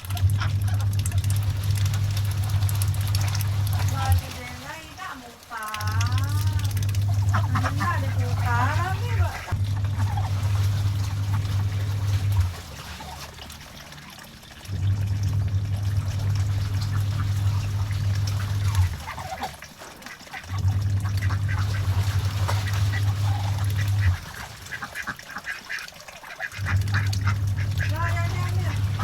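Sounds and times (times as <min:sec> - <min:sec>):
loud low steady hum: 0:00.0 - 0:05.0, 0:05.8 - 0:19.6, 0:20.5 - 0:25.0, 0:26.6 - 0:29.0
ducks quacking: 0:02.4 - 0:14.2, 0:16.5 - 0:29.0.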